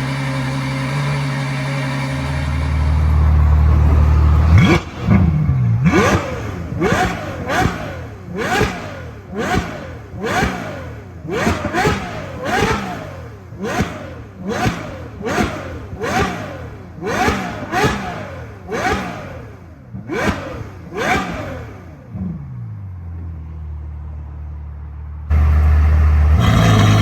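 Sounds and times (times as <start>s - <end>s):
car engine revving: 0.0s - 23.4s, 25.2s - 27.0s.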